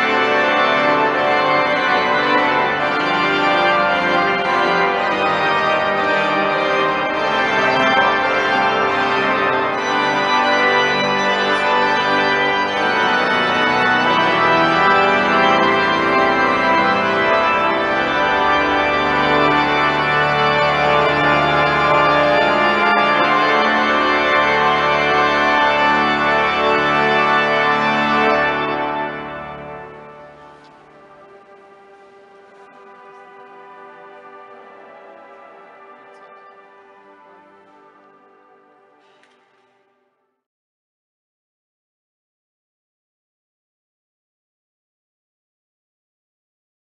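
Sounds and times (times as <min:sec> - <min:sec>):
pipe organ chords: 0:00.0 - 0:40.0.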